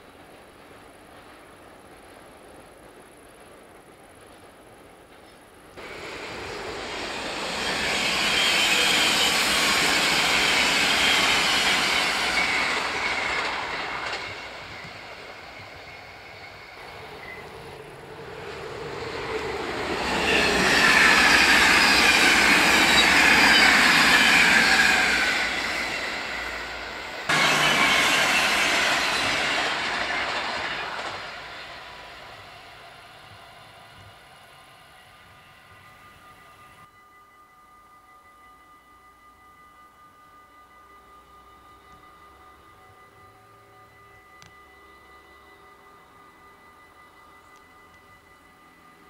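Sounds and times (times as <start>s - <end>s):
electric trains passing at speed: 0.0s - 36.9s, 40.4s - 49.0s.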